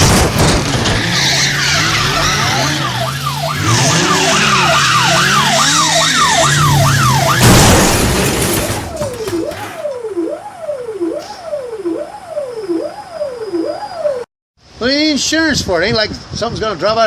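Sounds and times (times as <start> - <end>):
siren wailing: 0.5 - 14.3.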